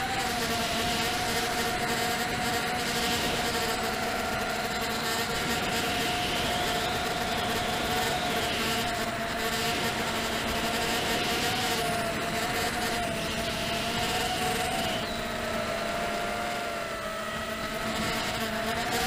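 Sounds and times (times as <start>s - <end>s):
quadcopter motors buzzing whine: 0.0s - 19.0s.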